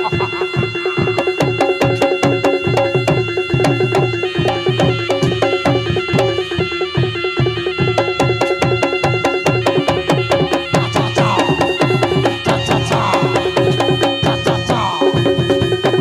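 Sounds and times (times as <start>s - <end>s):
steady held tone: 0.0s - 15.7s
hand drums beating: 0.0s - 16.0s
high melody line: 0.0s - 16.0s.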